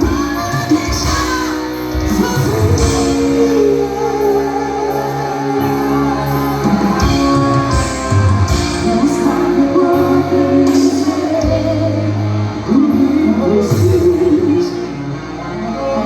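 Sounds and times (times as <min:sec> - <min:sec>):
live band music: 0:00.0 - 0:16.0
person singing: 0:00.0 - 0:16.0
steady bass line: 0:00.0 - 0:16.0.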